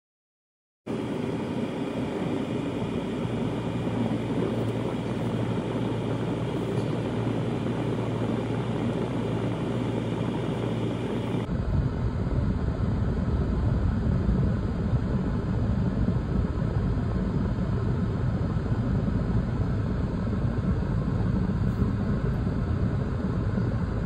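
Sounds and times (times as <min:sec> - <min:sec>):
low engine drone: 0:00.9 - 0:24.0
road and wind noise: 0:00.9 - 0:24.0.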